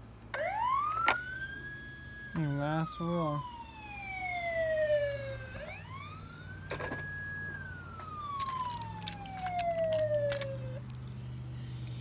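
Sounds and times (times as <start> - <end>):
siren winding up and down: 0.3 - 11.0.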